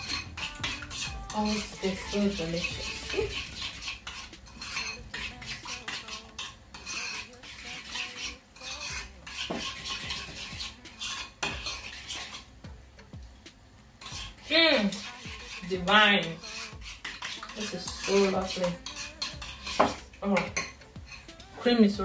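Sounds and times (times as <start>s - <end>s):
utensil stirring in a bowl: 0.0s - 22.0s.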